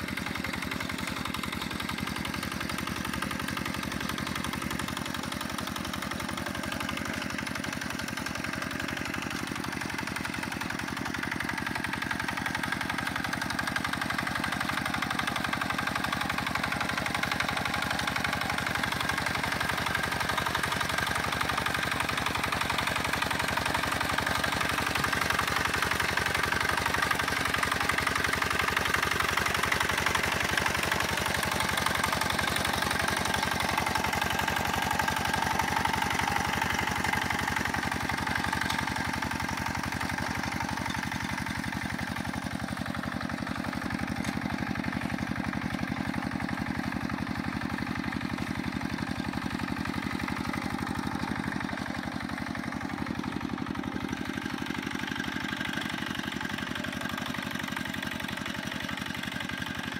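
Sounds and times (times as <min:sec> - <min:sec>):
walking tractor diesel engine: 0:00.0 - 0:59.9.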